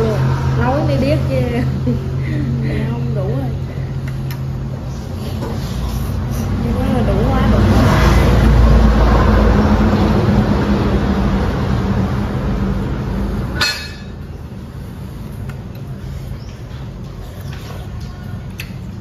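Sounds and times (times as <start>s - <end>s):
loud steady humming noise: 0.0s - 19.0s.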